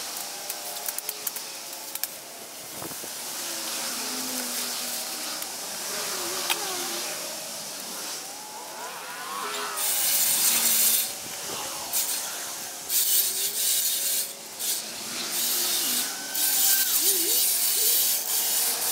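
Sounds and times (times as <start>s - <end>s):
leaves and branches rustling: 0.0s - 18.9s.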